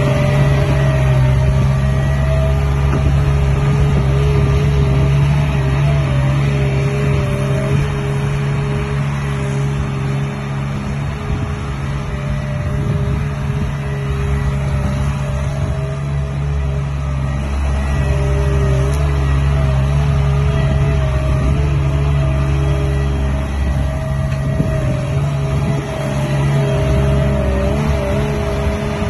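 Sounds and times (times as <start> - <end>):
diesel engine running: 0.0 - 29.0
wavering whine: 0.0 - 29.0.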